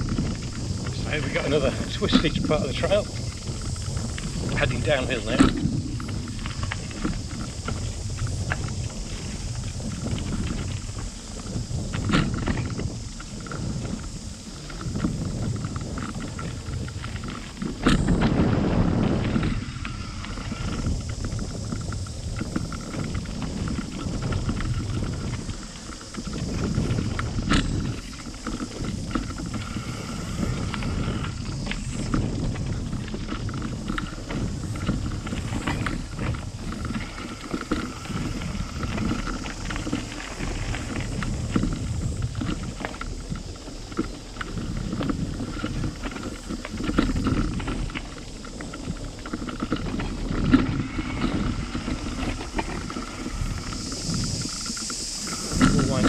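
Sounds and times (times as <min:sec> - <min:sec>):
bicycle tyres rumbling over dirt: 0:00.0 - 0:56.0
bike knocking over bumps: 0:00.0 - 0:56.0
bike rattling: 0:00.0 - 0:56.0.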